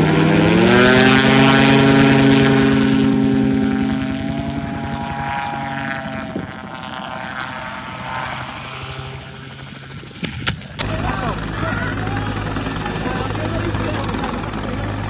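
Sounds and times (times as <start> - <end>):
aircraft engine and propeller: 0.0 - 15.0.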